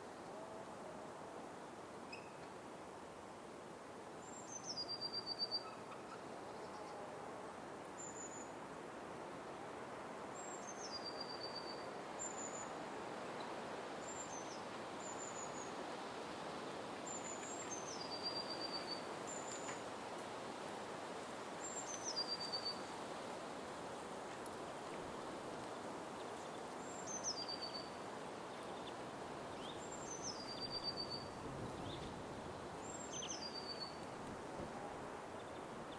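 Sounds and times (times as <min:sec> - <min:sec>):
steady background hiss: 0:00.0 - 0:35.9.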